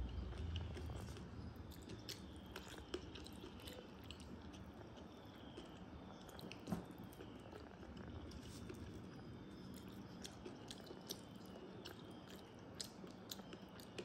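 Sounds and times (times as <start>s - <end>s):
chewing and wet mouth sounds: 0.0s - 14.0s.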